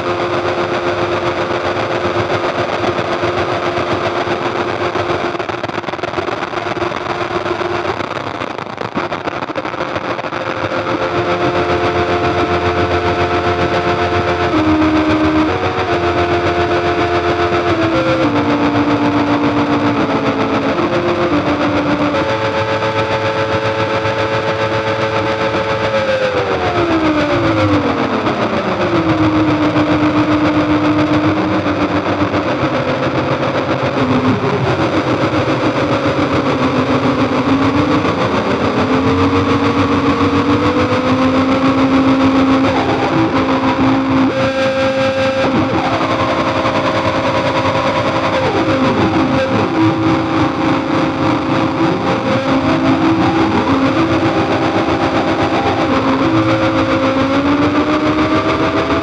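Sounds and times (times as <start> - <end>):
synth noise drone: 0.0 - 59.0.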